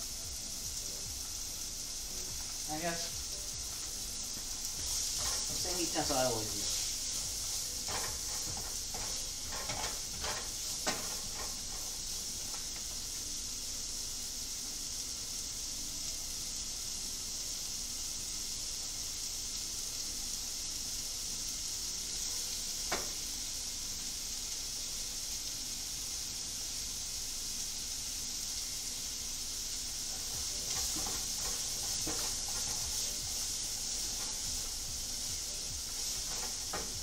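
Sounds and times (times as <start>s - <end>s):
food sizzling in a pot: 0.0s - 37.0s.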